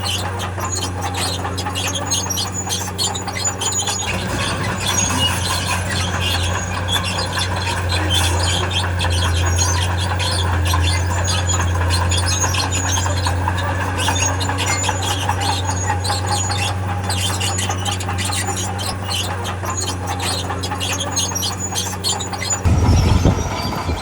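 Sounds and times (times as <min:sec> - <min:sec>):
diesel engine humming: 0:00.0 - 0:24.0
steel tracks squeaking and clinking: 0:00.0 - 0:24.0.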